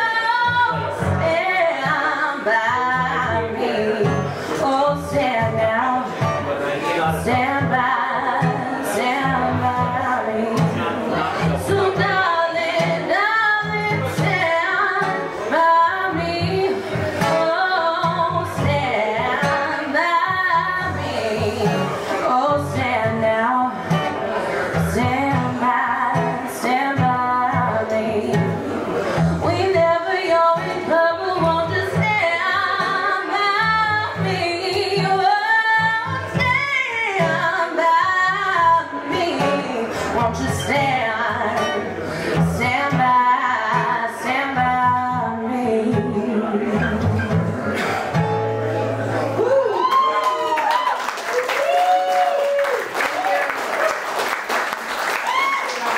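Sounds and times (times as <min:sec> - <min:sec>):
woman singing into microphone: 0:00.0 - 0:47.9
guitar: 0:00.0 - 0:55.9.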